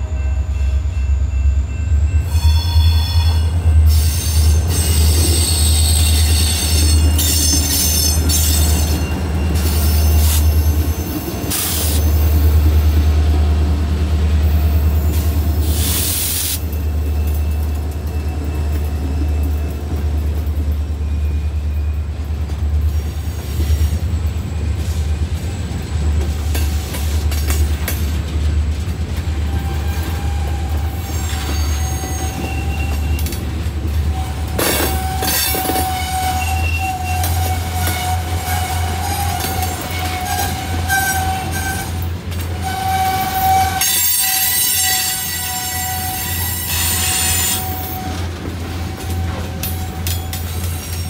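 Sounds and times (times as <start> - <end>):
train wheels squealing: 0.0 - 13.0, 14.4 - 27.3, 29.4 - 51.0
freight train rumbling by: 0.0 - 51.0.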